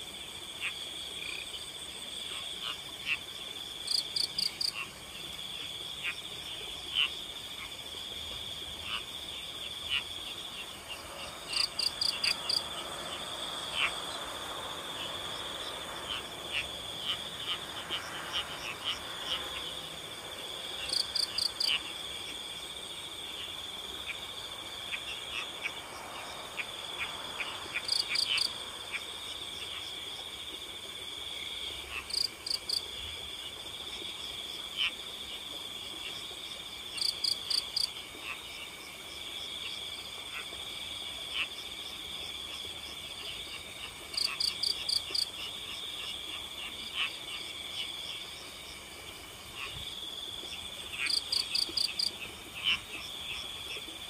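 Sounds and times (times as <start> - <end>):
crickets trilling: 0.0 - 54.0
frogs calling: 0.4 - 54.0.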